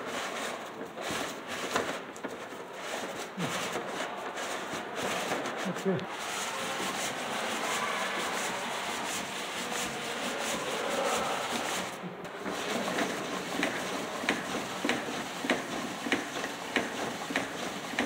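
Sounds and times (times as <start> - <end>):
cardboard parts rubbing and scraping: 0.0 - 18.0.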